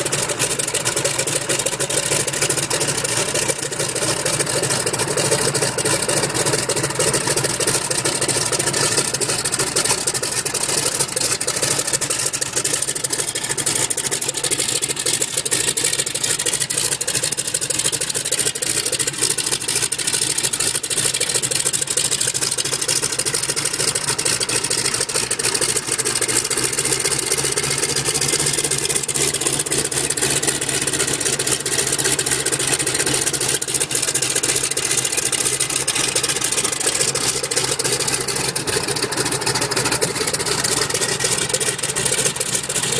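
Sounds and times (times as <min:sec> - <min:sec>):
biplane engine running: 0:00.0 - 0:42.9.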